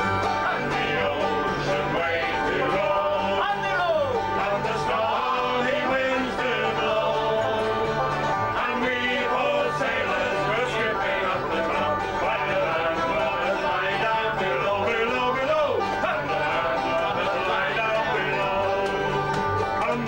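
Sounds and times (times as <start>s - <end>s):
acoustic guitar: 0.0s - 20.0s
banjo: 0.0s - 20.0s
fiddle: 0.0s - 20.0s.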